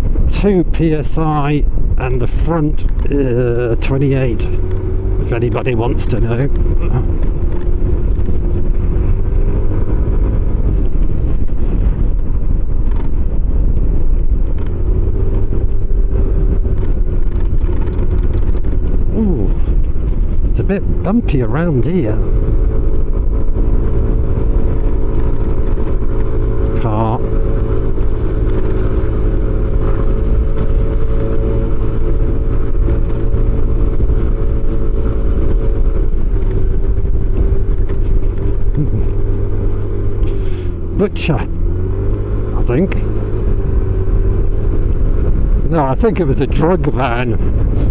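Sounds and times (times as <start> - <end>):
motorcycle engine cruising: 0.0 - 47.9
wind rumble on microphone: 0.0 - 47.9.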